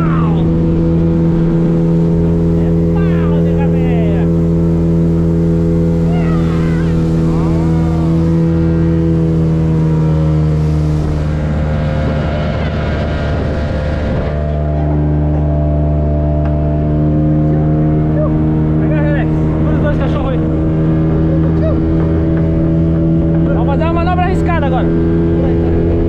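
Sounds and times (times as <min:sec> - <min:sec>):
speedboat engine running: 0:00.0 - 0:26.0.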